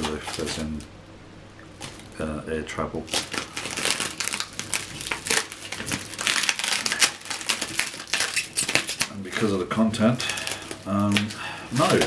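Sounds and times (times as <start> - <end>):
packaging crinkling: 0.0 - 0.9, 1.6 - 2.2, 3.0 - 12.0.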